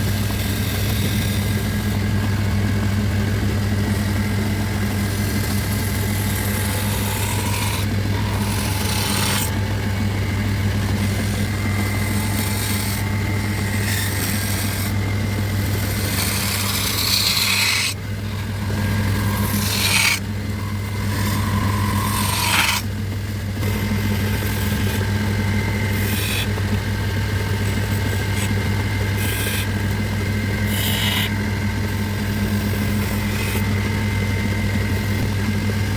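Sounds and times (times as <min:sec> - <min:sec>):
tool rasping against wood: 0:00.0 - 0:02.1, 0:03.8 - 0:22.9, 0:23.6 - 0:35.3
power tool motor hum: 0:00.0 - 0:35.9.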